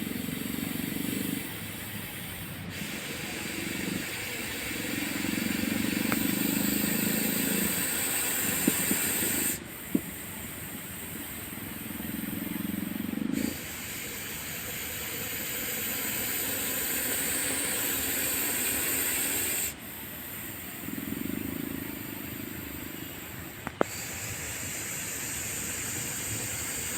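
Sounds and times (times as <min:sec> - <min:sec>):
snake hissing: 0:00.0 - 0:26.9.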